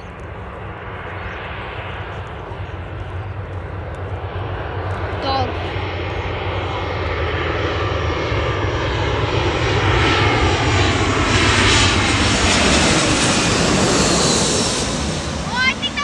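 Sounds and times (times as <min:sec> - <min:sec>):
jet airliner passing overhead: 0:00.0 - 0:16.0.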